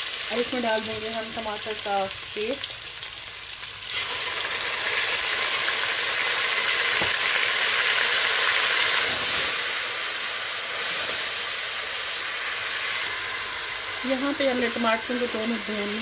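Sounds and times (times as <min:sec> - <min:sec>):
tomato sizzling in hot oil: 0:00.0 - 0:16.0.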